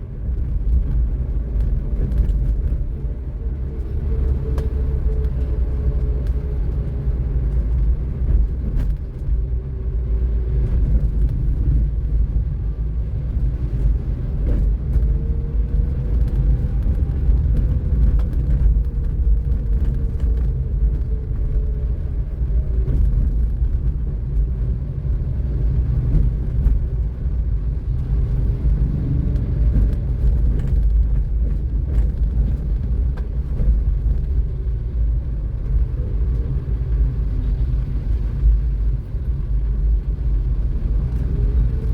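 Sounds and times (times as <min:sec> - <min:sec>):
car driving on road: 0:00.0 - 0:41.9.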